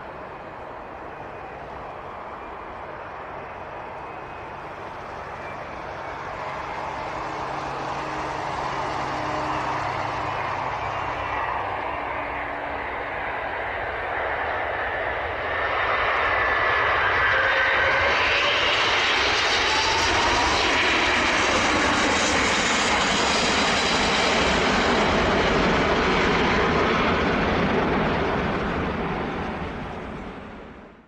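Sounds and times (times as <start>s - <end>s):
jet engines at high thrust: 0.0s - 31.0s.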